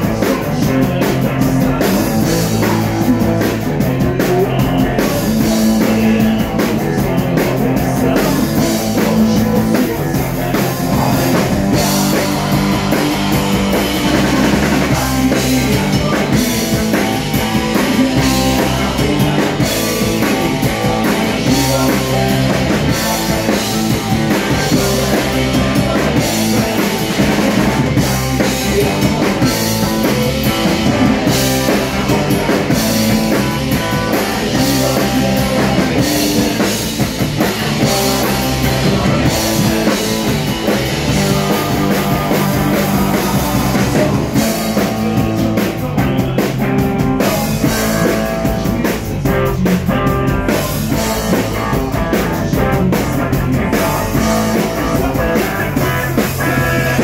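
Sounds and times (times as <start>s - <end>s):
punk rock band playing live: 0.0s - 57.0s.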